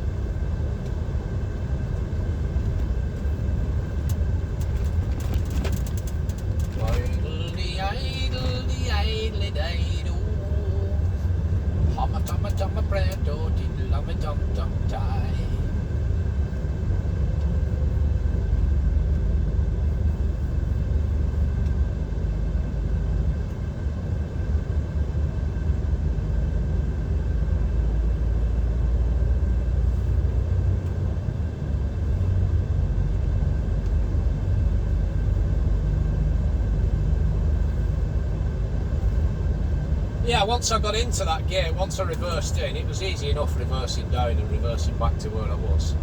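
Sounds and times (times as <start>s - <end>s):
lorry engine and road noise drone: 0.0s - 46.0s.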